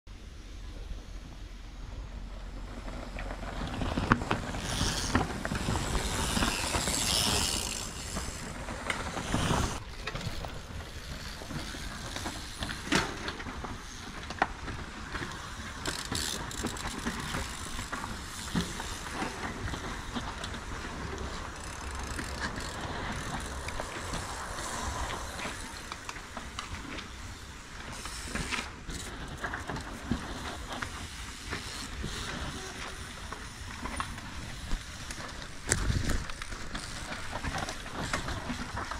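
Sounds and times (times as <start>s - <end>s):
bike tyres over dirt and roots: 0.8s - 38.9s
bike clicks and rattles: 2.5s - 38.9s.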